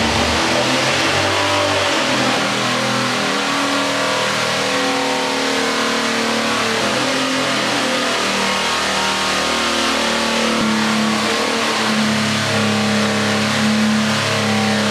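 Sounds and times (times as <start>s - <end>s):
engine running hard: 0.0s - 14.9s.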